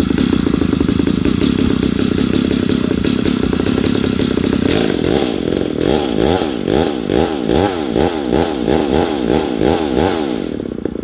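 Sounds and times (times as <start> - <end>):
chainsaw engine idling: 0.0 - 11.0.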